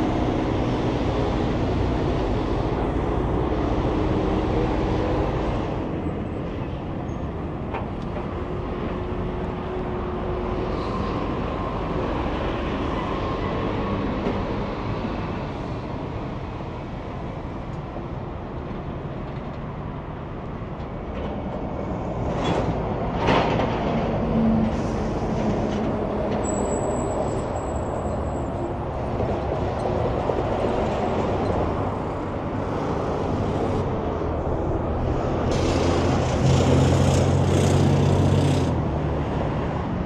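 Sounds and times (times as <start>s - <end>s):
heavy vehicles rumbling past: 0.0s - 40.0s.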